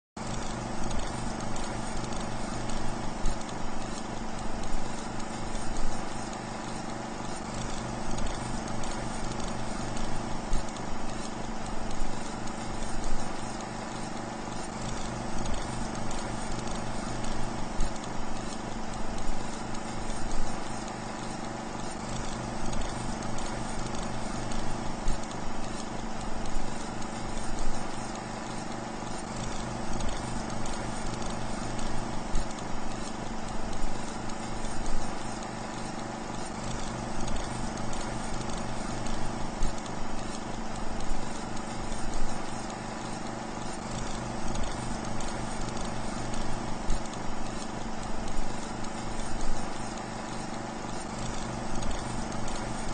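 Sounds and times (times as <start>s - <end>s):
steady electrical hum: 0.2s - 52.9s.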